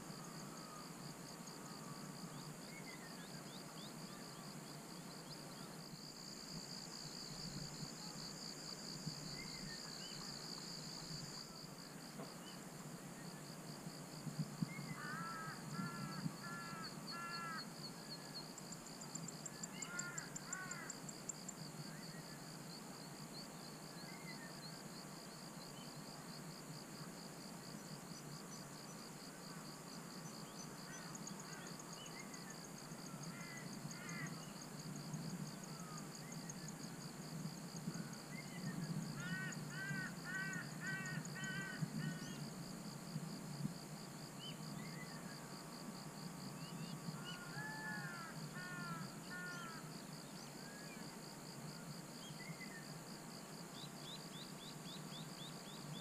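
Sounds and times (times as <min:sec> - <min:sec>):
pulsing insect chorus: 0:00.0 - 0:56.0.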